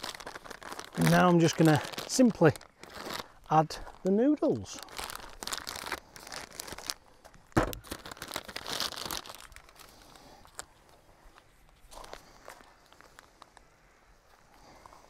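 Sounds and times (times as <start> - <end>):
plastic pouch tearing and crinkling: 0.0 - 13.6.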